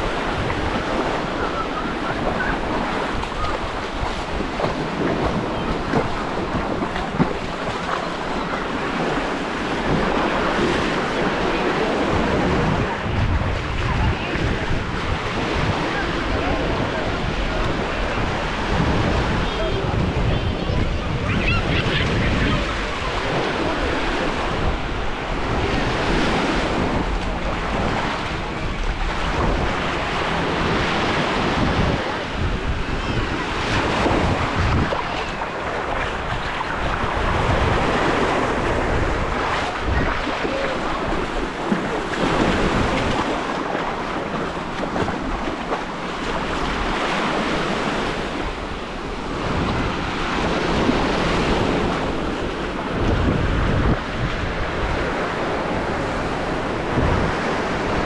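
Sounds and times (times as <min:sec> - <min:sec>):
small waves washing over sand: 0:00.0 - 0:58.0
wind buffeting microphone: 0:00.0 - 0:58.0.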